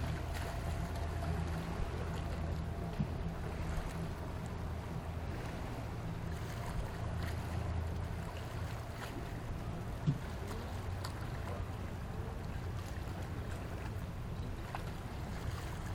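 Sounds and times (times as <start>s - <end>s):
boat motor humming: 0.0s - 15.9s
water noise: 0.0s - 15.9s
wind: 0.0s - 15.9s.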